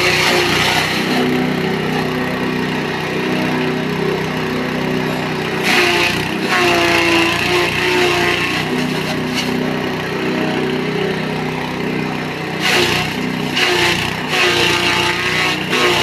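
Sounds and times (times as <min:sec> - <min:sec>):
grass chopper engine running: 0:00.0 - 0:16.0.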